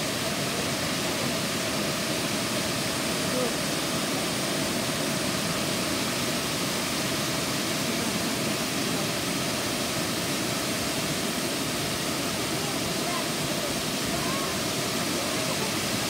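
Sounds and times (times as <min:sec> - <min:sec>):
waterfall rushing and splashing: 0:00.0 - 0:16.0.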